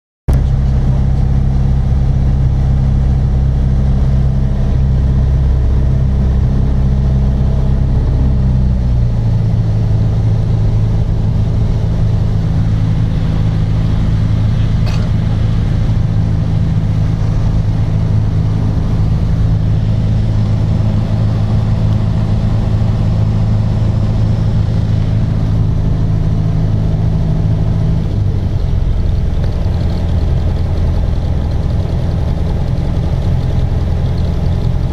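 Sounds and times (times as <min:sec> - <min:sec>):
light aircraft engine droning: 0:00.3 - 0:34.9.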